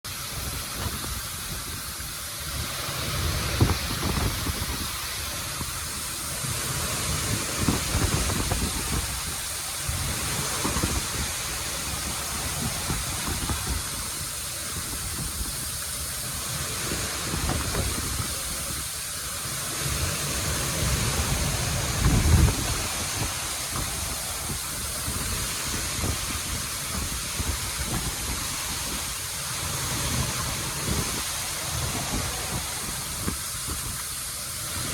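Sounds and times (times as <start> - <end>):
waterfall pouring: 0.1 - 34.9.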